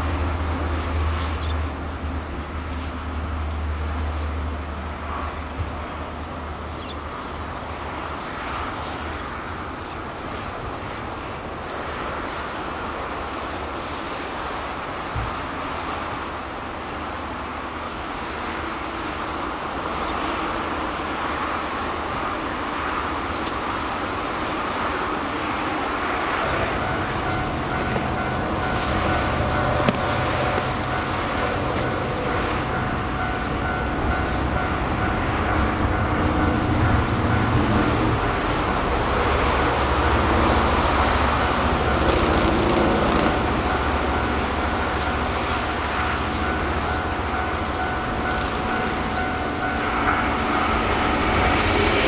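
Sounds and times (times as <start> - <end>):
distant vehicle rumble: 0.0 - 13.9, 14.7 - 52.0.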